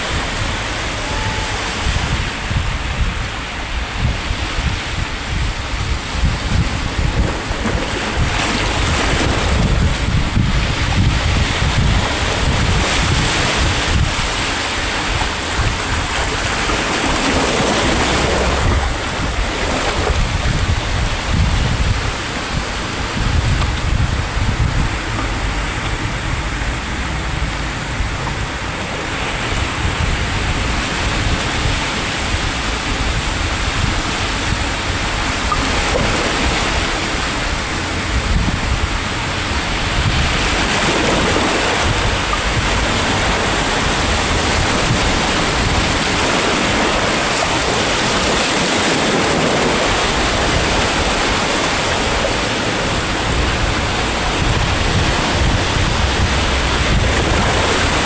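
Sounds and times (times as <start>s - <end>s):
sea waves breaking: 0.0s - 58.0s
wind buffeting microphone: 0.0s - 58.0s.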